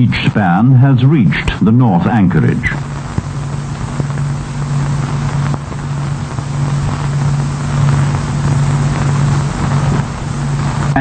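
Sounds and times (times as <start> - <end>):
low machinery hum with hiss: 0.0 - 11.0.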